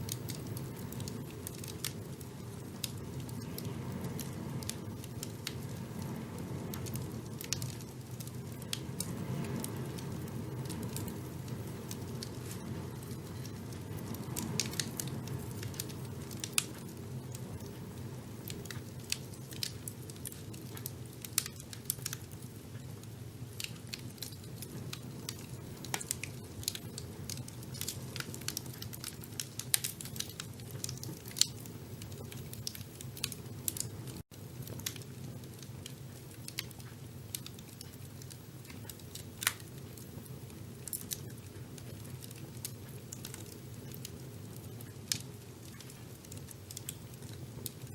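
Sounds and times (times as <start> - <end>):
fire crackling and popping: 0.0 - 47.9
low rumble of flame: 0.0 - 47.9.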